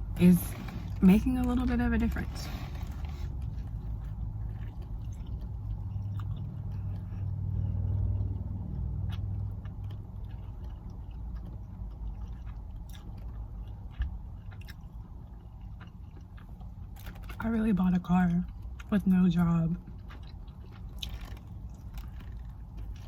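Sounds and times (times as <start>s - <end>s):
steady low rumble: 0.0s - 23.0s
person chewing food: 2.4s - 17.4s, 18.4s - 23.0s.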